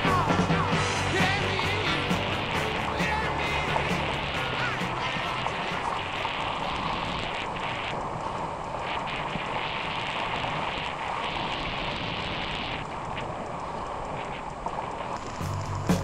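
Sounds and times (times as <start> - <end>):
wind buffeting microphone: 0.0 - 15.2
water rushing along hull: 0.0 - 16.0.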